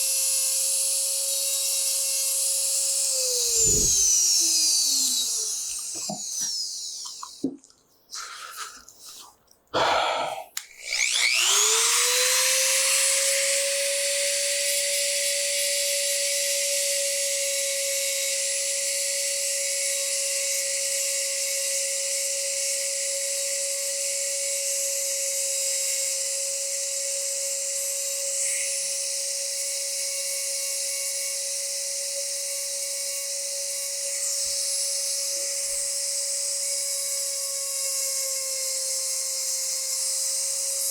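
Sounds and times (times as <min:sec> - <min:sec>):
electric rotary tool whining: 0:00.0 - 0:07.5, 0:09.8 - 0:40.9.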